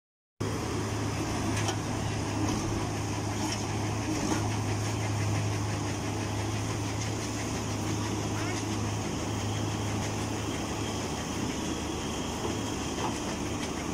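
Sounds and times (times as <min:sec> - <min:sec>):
diesel engine idling: 0:00.4 - 0:13.9.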